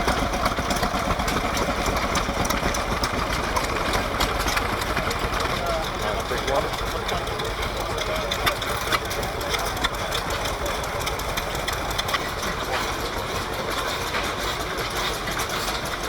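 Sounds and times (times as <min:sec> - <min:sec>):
stationary engines running: 0:00.0 - 0:16.0.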